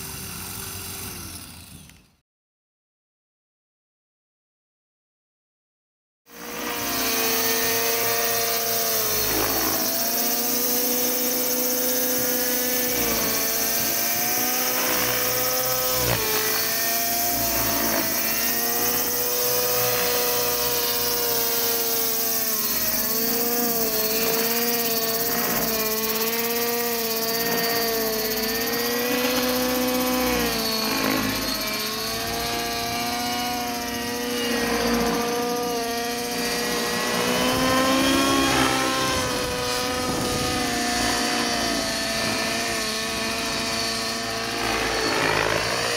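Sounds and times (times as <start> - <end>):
model helicopter engine whining: 0.0 - 2.2, 6.3 - 45.9.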